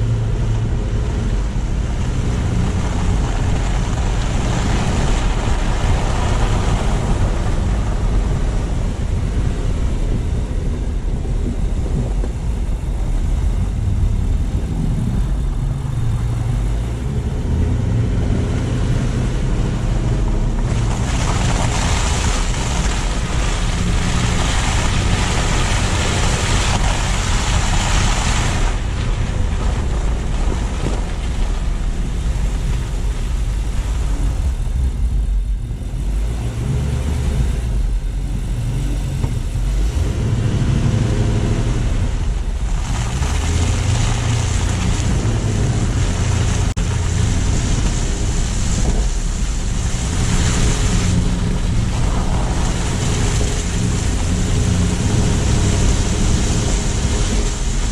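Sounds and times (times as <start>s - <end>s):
tyre and road noise: 0.0s - 57.9s
wind on microphone: 0.0s - 57.9s.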